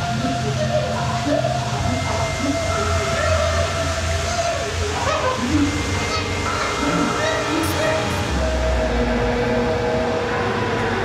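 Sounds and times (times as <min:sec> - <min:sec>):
faint wavering tones: 0:00.0 - 0:11.0
low drone: 0:00.0 - 0:11.0.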